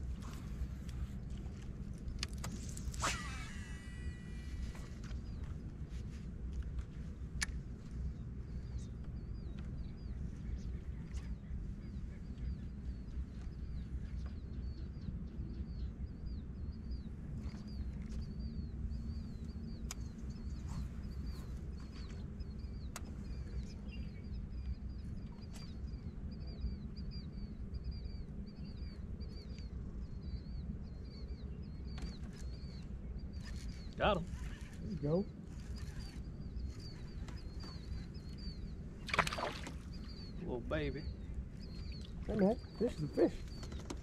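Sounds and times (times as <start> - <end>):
steady low rumble: 0.0 - 44.0
bird chirping: 8.5 - 44.0.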